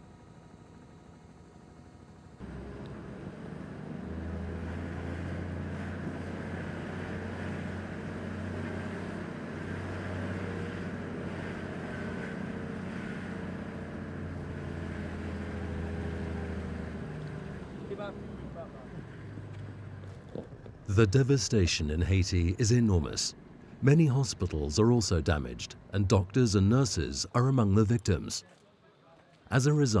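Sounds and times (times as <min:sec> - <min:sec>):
vehicle engine humming: 0:00.6 - 0:28.4
road and wind noise: 0:02.4 - 0:27.1.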